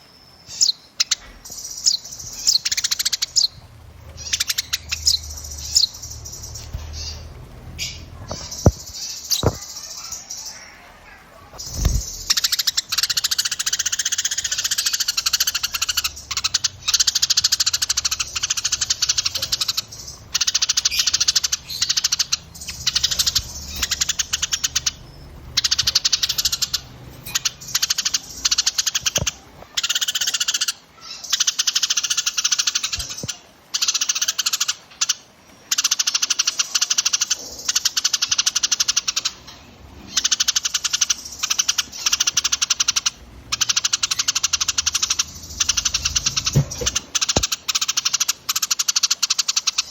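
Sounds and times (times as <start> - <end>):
songbirds buzzy trills: 0.0 - 49.9.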